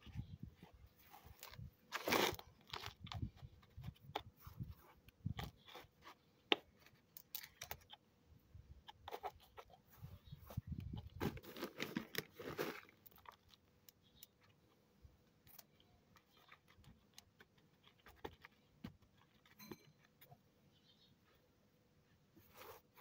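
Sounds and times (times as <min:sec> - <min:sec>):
hands crumbling potting soil: 0:00.0 - 0:08.0, 0:08.8 - 0:19.6.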